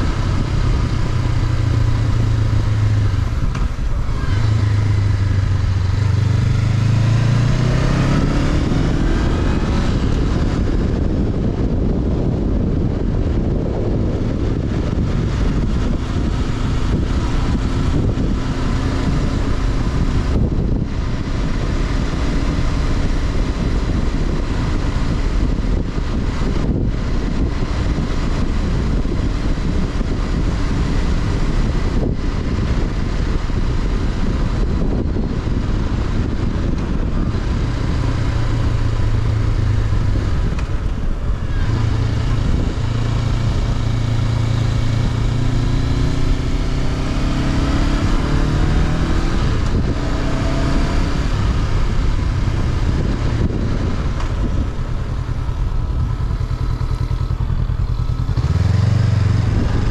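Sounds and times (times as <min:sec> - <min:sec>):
motorcycle engine running: 0:00.0 - 0:59.9
wind rushing past microphone: 0:00.0 - 0:59.9.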